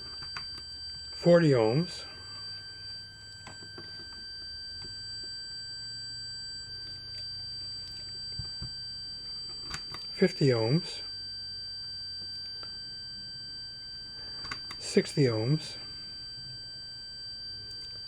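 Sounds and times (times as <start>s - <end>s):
continuity beeper steady tone: 0.0s - 18.0s.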